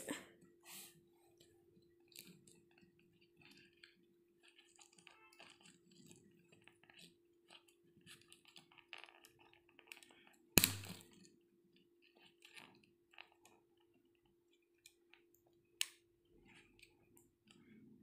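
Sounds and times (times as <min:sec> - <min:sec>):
balloon rubber clicks and rustles: 0:02.1 - 0:17.7.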